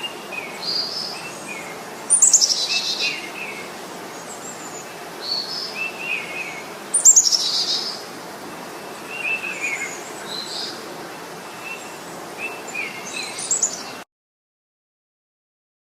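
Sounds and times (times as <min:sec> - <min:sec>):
background hiss: 0:00.0 - 0:14.0
small birds singing: 0:00.0 - 0:14.0.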